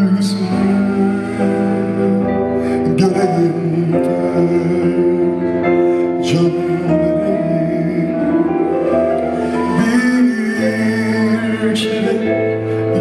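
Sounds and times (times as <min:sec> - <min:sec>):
band playing: 0:00.0 - 0:13.0
man singing a slow ballad: 0:00.0 - 0:13.0.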